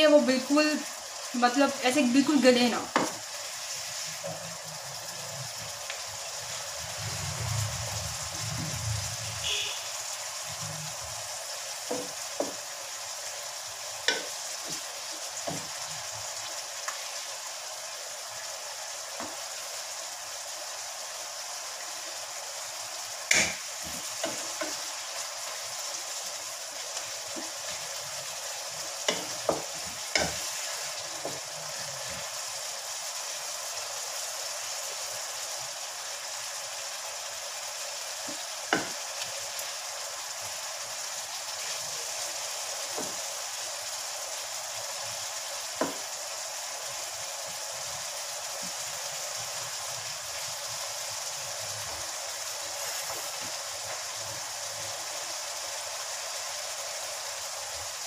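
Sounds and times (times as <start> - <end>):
chicken sizzling in a wok: 0.0 - 58.0.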